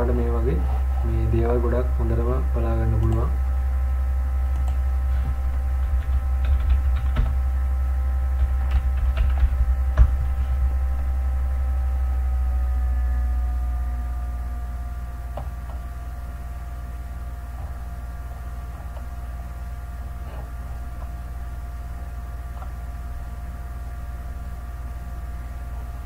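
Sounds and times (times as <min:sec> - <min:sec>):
loud steady low hum: 0:00.0 - 0:26.0.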